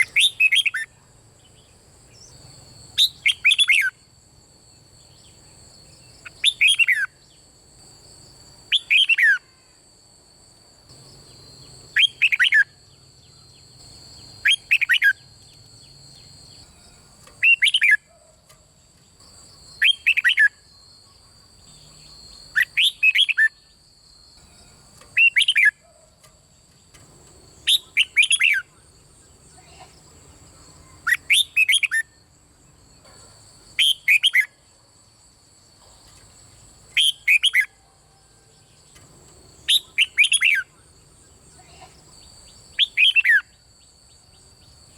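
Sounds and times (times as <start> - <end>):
bird singing: 0.0 - 4.1, 4.7 - 9.8, 10.9 - 34.7, 35.8 - 44.9.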